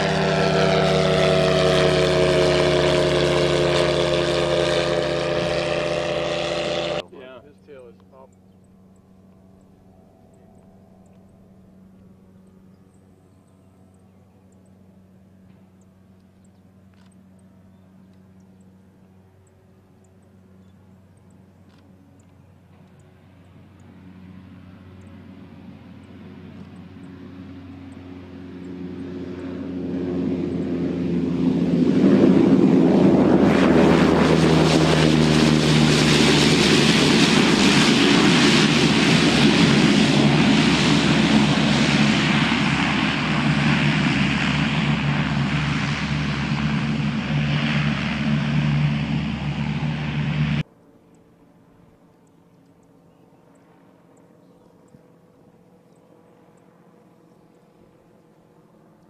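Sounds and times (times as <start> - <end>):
propeller engine droning: 0.0 - 59.0.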